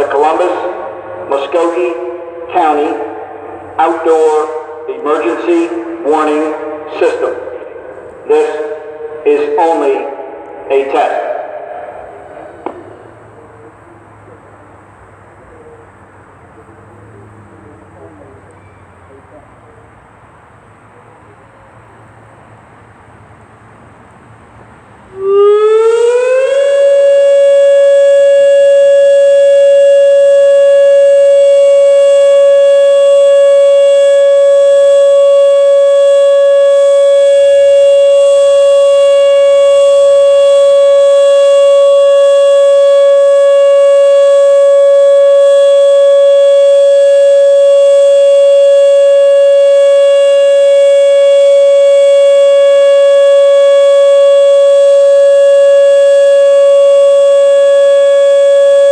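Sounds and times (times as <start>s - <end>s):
warning siren: 0.0s - 58.9s.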